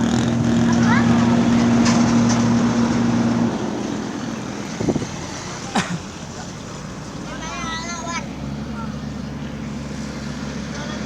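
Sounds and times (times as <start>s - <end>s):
engine running: 0.0s - 11.0s
outdoor background noise: 0.0s - 11.0s.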